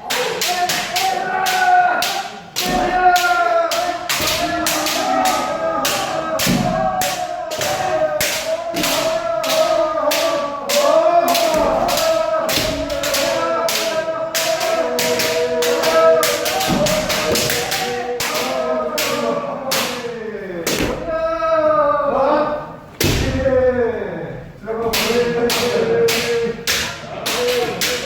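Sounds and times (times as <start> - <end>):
people shouting: 0.0 - 28.0.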